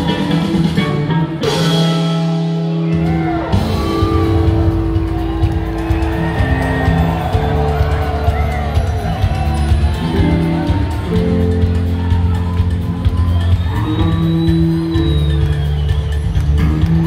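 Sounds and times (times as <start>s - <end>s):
bass: 0.0s - 17.0s
live rock band playing loudly: 0.0s - 17.0s.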